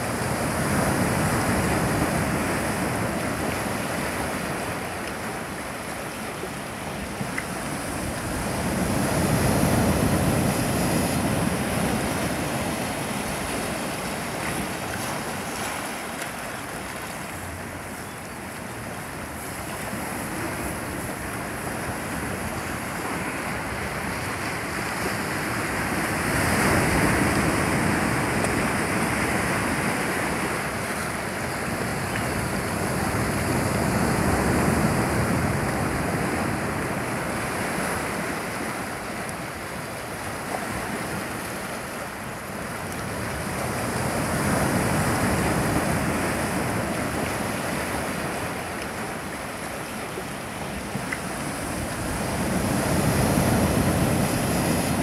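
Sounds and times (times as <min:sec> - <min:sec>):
sea surf breaking on rocks: 0:00.0 - 0:55.0.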